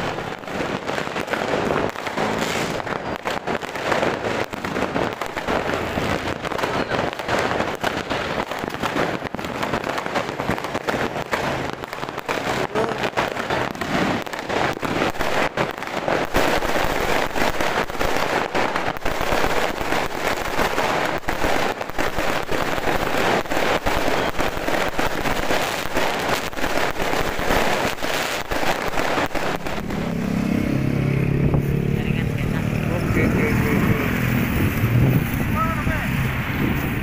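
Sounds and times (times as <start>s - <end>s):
firecrackers crackling: 0.0s - 37.0s.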